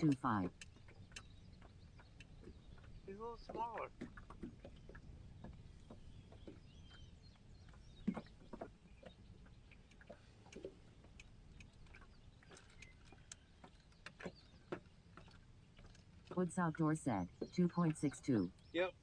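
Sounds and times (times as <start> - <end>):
faint clicks and knocks: 0.0 - 18.7.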